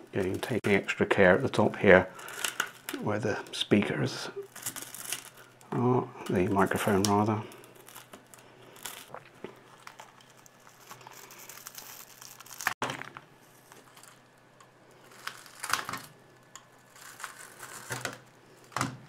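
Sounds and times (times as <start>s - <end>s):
crackling glass and tape: 0.0s - 19.0s.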